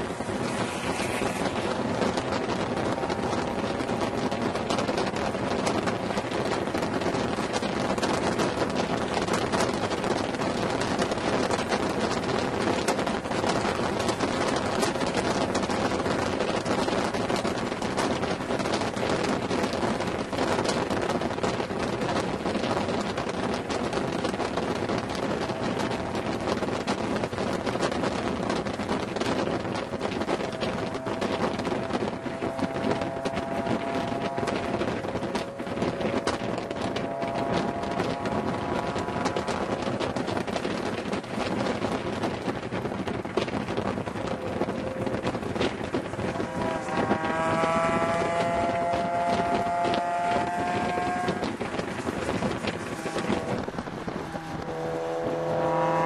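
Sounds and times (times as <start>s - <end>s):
car engine running: 0.0s - 56.0s
road noise: 0.0s - 56.0s
wind buffeting microphone: 0.0s - 56.0s.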